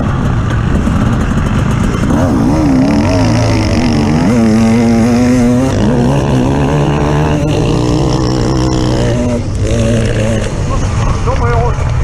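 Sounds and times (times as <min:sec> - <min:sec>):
off-road vehicle engine revving: 0:00.0 - 0:11.4.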